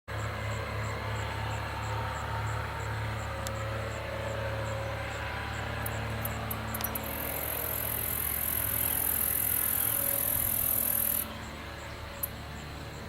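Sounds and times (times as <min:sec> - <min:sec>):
airplane engine humming: 0:00.1 - 0:13.0.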